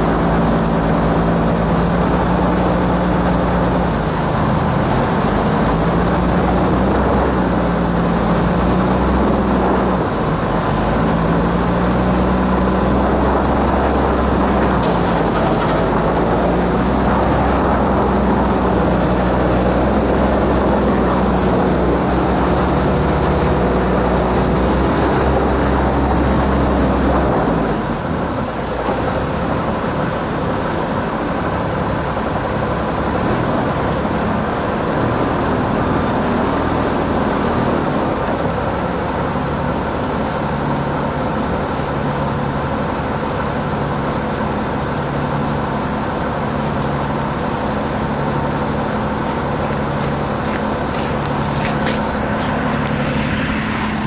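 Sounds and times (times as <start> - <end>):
diesel truck engines straining: 0.0 - 54.0.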